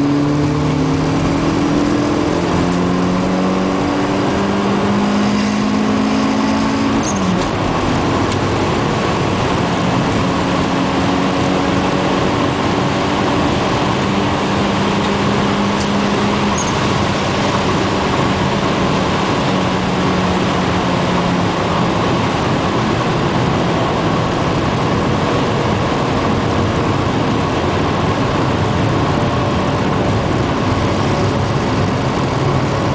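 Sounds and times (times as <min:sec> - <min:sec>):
car engine accelerating: 0:00.0 - 0:32.9
wind and road noise: 0:00.0 - 0:32.9.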